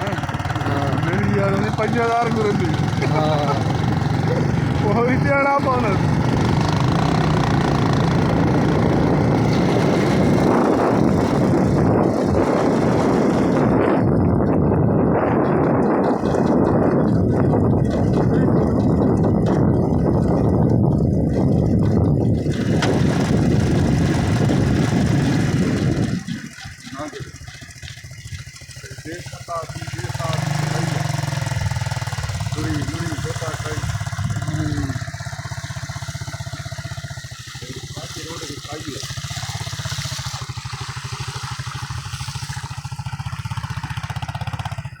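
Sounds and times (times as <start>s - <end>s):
engine chugging: 0.0s - 45.0s
motor vehicle rumbling: 0.0s - 45.0s.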